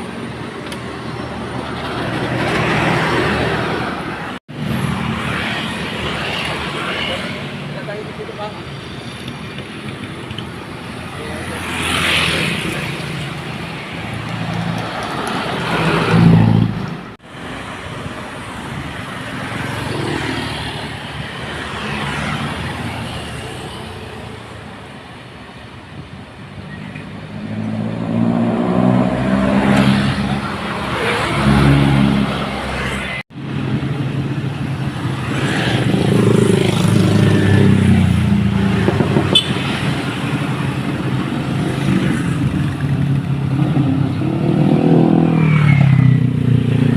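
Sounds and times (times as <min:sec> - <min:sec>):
dump truck engines passing: 0:00.0 - 0:46.9.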